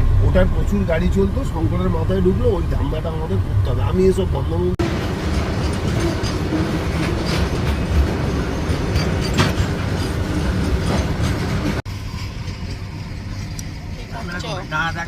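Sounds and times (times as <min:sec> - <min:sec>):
vehicle rumble with road rattle: 0:00.0 - 0:15.0.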